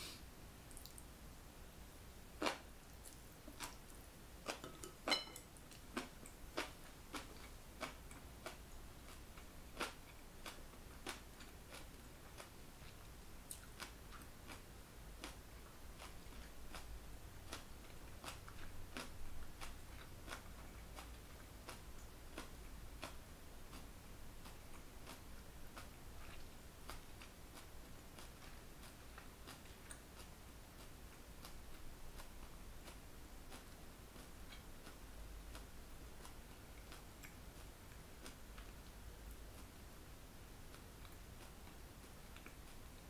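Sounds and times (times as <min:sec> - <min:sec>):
chewing food: 0:00.7 - 0:01.1, 0:02.4 - 0:39.8, 0:40.7 - 0:43.0.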